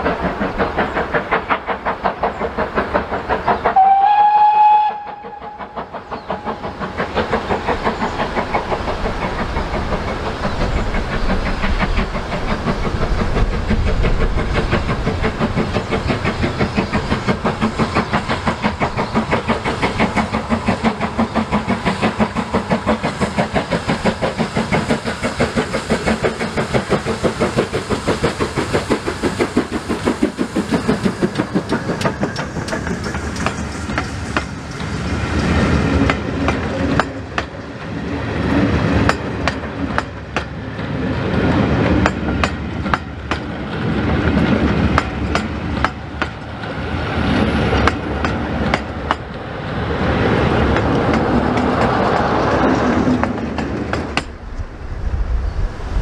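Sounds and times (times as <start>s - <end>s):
steam locomotive exhaust beat: 0.0s - 56.0s
wheels clicking over rail joints: 5.1s - 54.7s.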